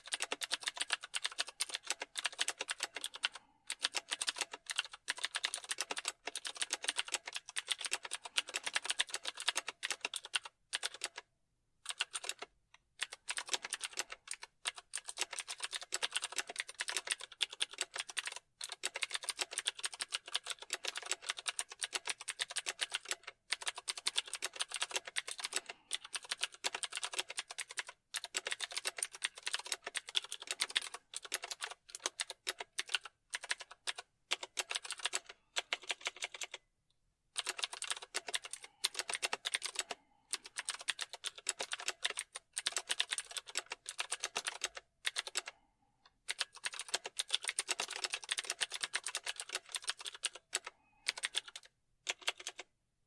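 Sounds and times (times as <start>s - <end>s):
fast typing on keyboard: 0.0s - 36.6s, 37.4s - 45.6s, 46.2s - 52.7s.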